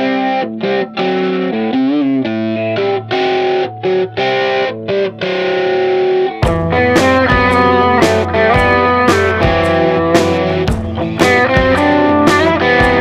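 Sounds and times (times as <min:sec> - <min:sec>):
wavering bending note: 0:00.0 - 0:13.0
stop-start chords: 0:00.3 - 0:13.0.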